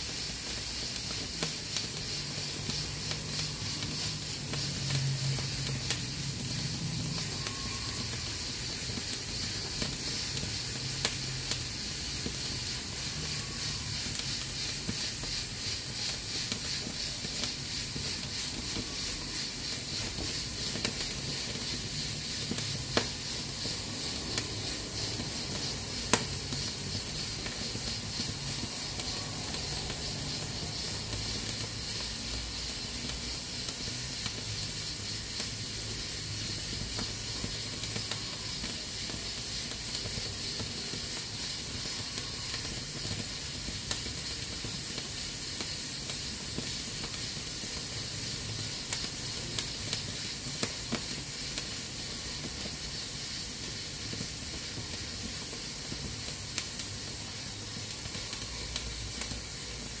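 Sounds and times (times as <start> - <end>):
pressure cooker hissing: 0.0 - 60.0
firewood crackling: 0.1 - 35.6, 36.6 - 60.0.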